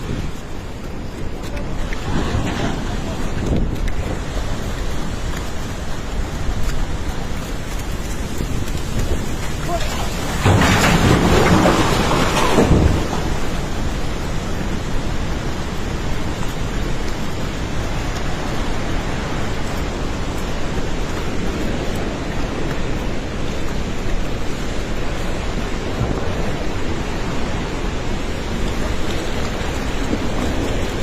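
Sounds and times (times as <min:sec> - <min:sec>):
rushing floodwater: 0:00.0 - 0:31.0.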